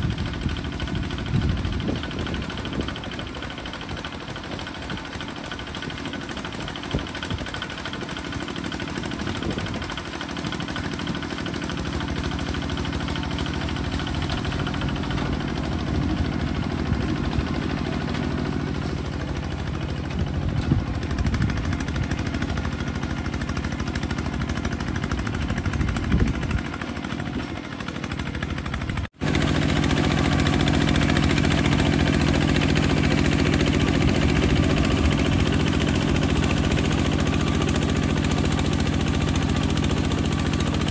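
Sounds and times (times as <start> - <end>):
bulldozer engine running: 0.0 - 40.9.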